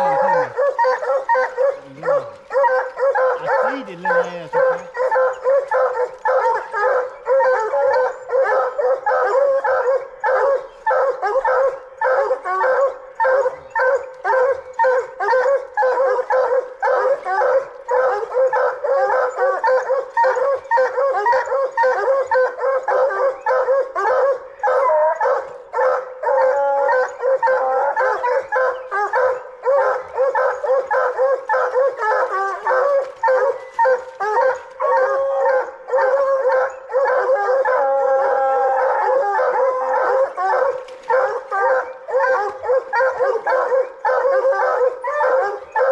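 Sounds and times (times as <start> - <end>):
hounds barking: 0.0 - 45.9.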